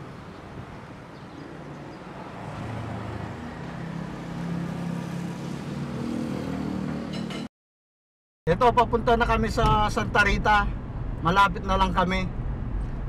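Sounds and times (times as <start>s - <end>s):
street traffic: 0.0s - 7.5s, 8.5s - 13.0s.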